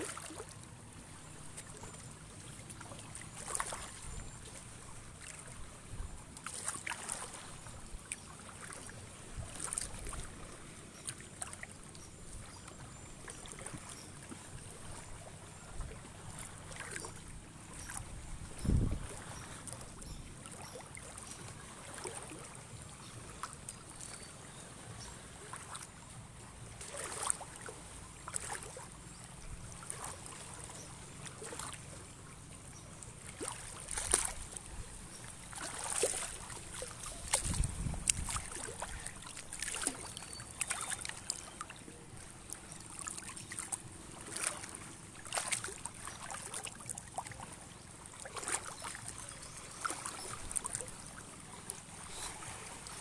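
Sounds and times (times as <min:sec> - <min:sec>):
seawater lapping at shoreline: 0:00.0 - 0:53.0.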